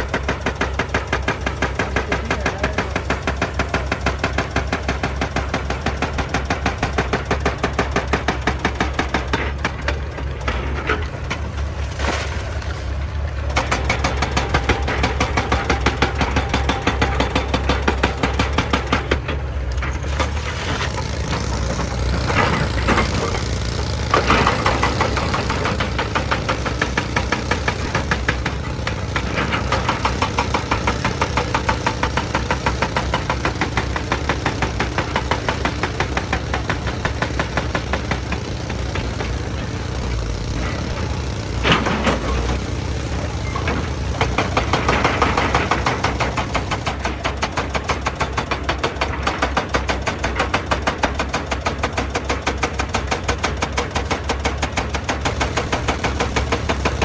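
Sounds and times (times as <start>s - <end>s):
excavator diesel engine clattering: 0.0s - 57.0s.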